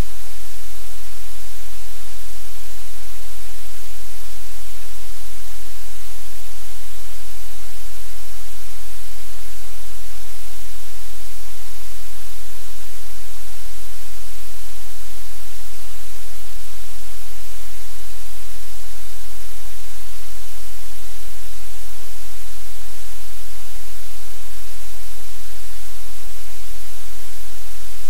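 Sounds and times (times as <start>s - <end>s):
static hiss: 0.0s - 28.0s.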